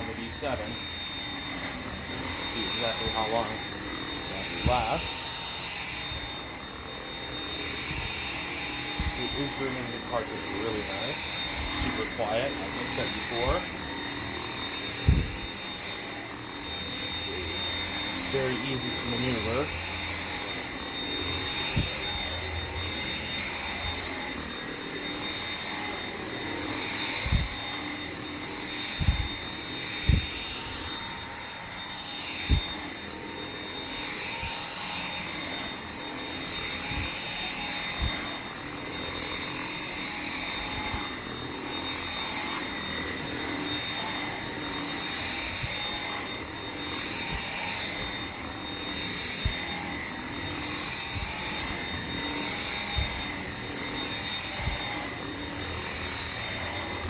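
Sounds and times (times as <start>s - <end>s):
vacuum cleaner whining on carpet: 0.0s - 57.0s.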